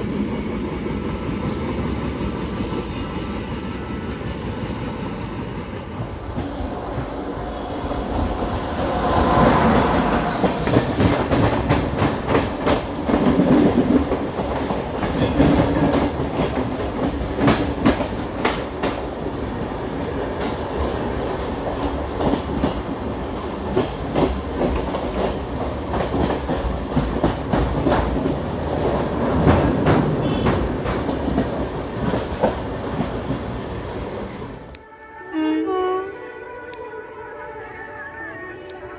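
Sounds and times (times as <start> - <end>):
wheels rushing on rail: 0.0 - 34.8.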